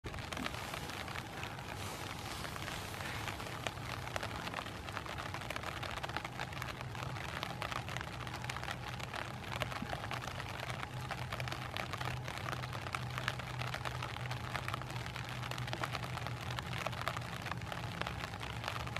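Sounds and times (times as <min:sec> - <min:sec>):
low steady hum: 0:00.0 - 0:18.9
rain pattering on an umbrella: 0:00.0 - 0:18.9.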